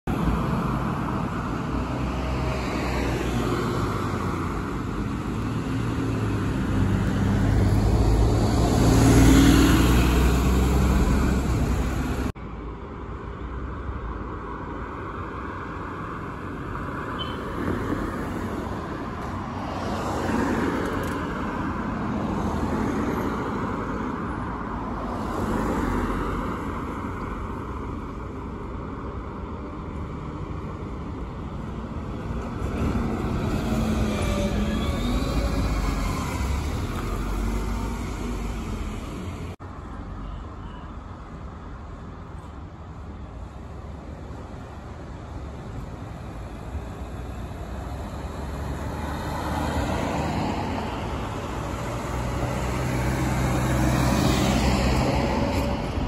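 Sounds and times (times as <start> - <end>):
road traffic noise: 0.0 - 56.0
bus passing: 0.1 - 56.0.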